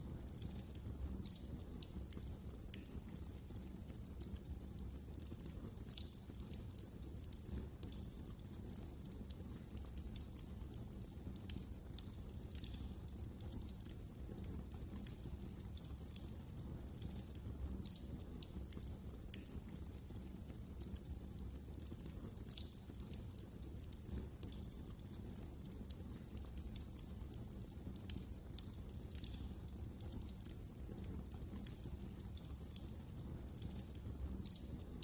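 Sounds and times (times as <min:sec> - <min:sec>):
fireplace wood crackling and popping: 0:00.0 - 0:35.0.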